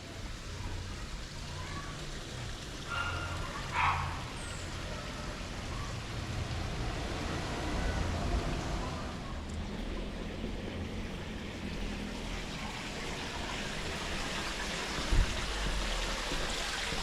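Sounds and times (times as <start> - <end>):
small stream trickling: 0.0 - 17.0.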